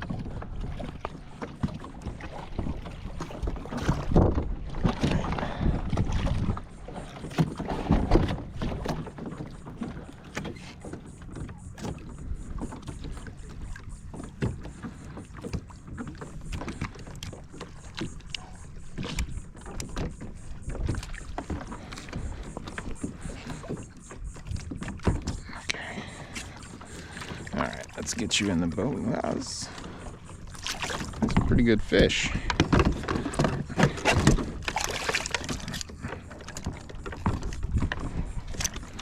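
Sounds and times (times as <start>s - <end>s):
water splashing: 0.0s - 39.0s.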